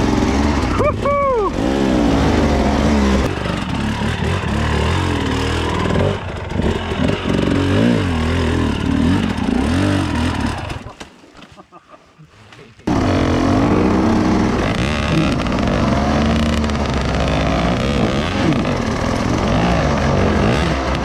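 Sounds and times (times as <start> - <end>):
dirt bike engines revving: 0.0 - 11.0, 12.6 - 21.0.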